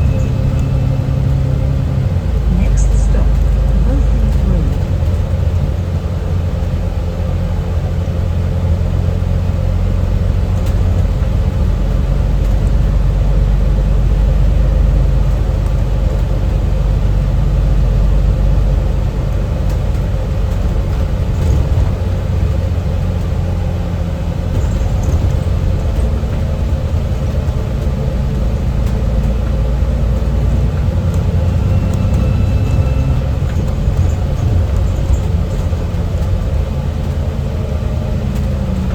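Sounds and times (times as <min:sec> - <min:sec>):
bus engine and road rumble: 0:00.0 - 0:38.9.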